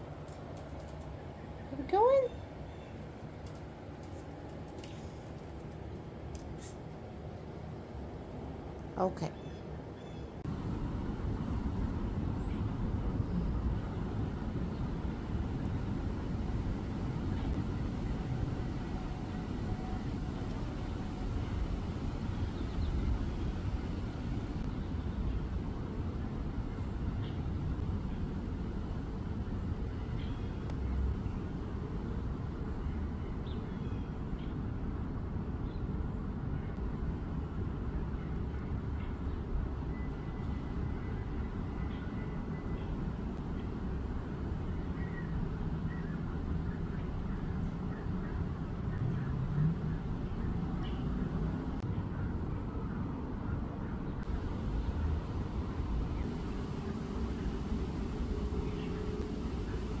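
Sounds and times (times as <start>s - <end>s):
faint steady hum: 0.0s - 60.0s
low outdoor rumble: 0.0s - 60.0s.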